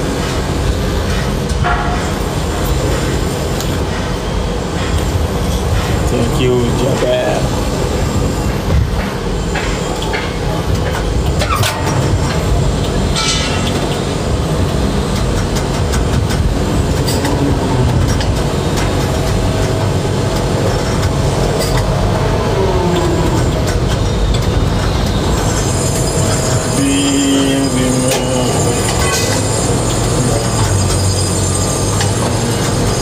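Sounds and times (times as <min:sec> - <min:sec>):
crane drives rumbling and humming: 0:00.0 - 0:33.0
falling mechanical whine: 0:00.0 - 0:33.0.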